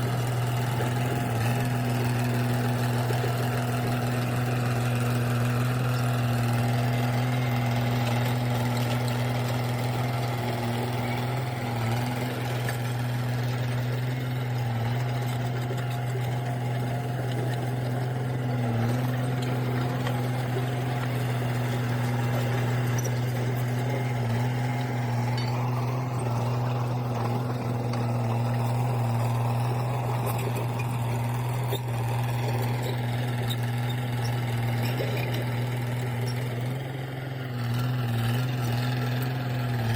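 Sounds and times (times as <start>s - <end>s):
faint mechanical clatter: 0.0s - 39.9s
tractor engine droning: 0.0s - 39.9s.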